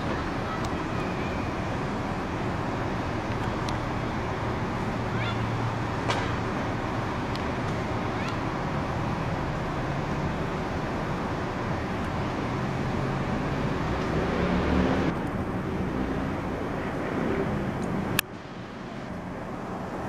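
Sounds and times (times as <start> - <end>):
passing traffic: 0.0 - 20.0.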